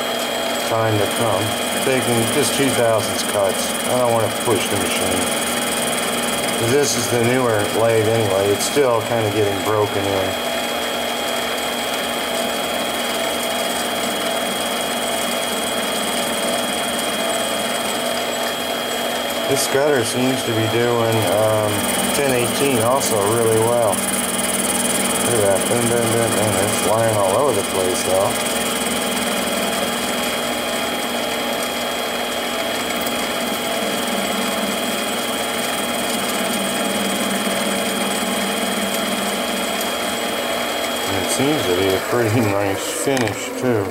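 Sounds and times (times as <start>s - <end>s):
cutter cutting steel: 0.0s - 14.1s, 14.8s - 43.9s
lathe running with high whine: 0.0s - 43.9s.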